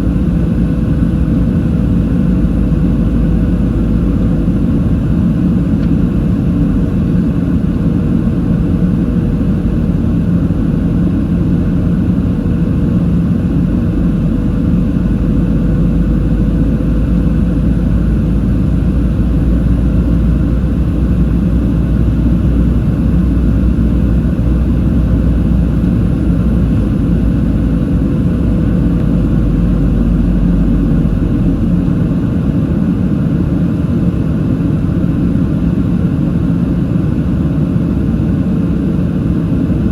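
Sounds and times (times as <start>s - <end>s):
airplane cabin air rush and engine hum: 0.0s - 39.9s
faint steady whine: 0.0s - 39.9s.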